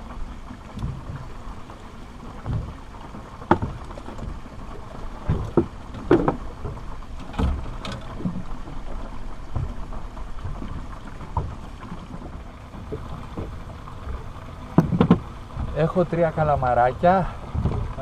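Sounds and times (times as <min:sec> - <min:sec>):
water and wind rumble: 0:00.0 - 0:18.0.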